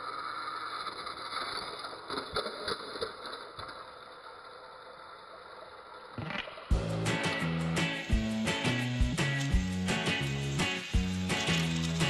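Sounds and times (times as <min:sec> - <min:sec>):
toy train motors whirring: 0:00.0 - 0:12.0.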